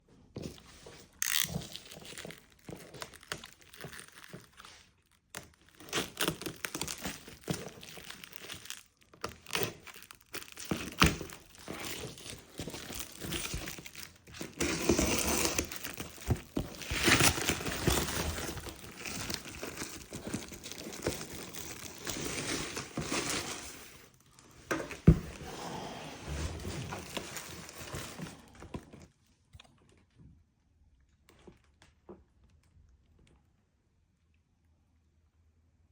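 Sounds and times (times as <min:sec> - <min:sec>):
packaging rustling and scraping: 0:00.4 - 0:29.2.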